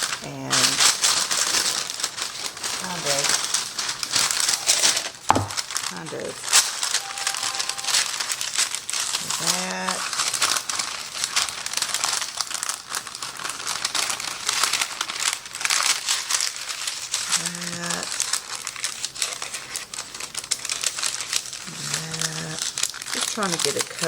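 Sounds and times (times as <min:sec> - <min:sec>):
plastic wrap crinkling: 0:00.0 - 0:24.0.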